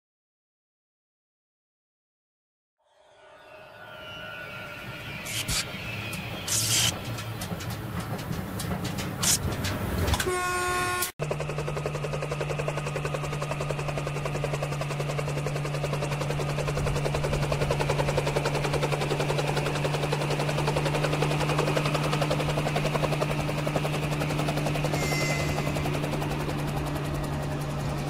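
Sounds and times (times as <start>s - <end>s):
electric locomotive humming: 2.8s - 28.0s.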